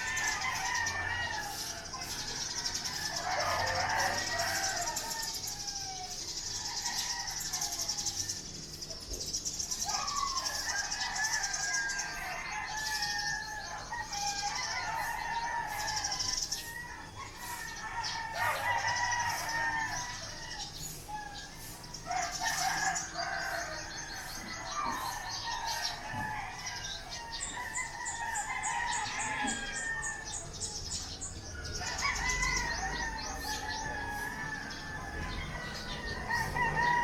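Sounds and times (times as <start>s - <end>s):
roosters crowing: 0.0s - 37.0s.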